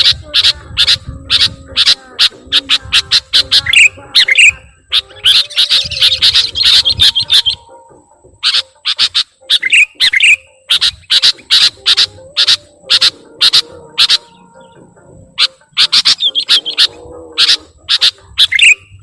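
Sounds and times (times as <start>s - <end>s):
bulbul chirps: 0.0s - 19.0s
faint steady tones: 0.0s - 19.0s.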